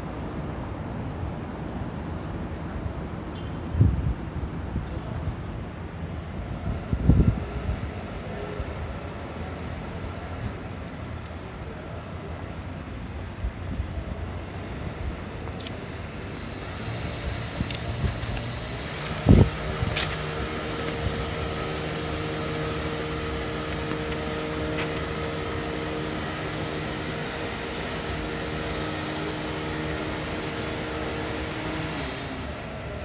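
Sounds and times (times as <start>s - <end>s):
steady mechanical hum: 5.0s - 33.0s.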